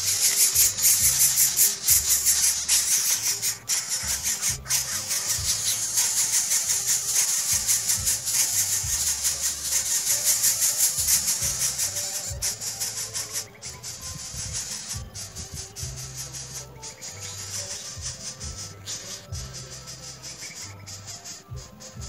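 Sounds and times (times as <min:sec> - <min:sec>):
music with shaker and bass: 0:00.0 - 0:22.0.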